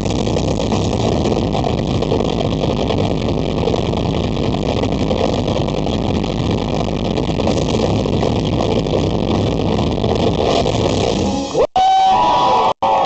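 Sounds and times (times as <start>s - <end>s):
live rock concert roar: 0.0s - 13.0s.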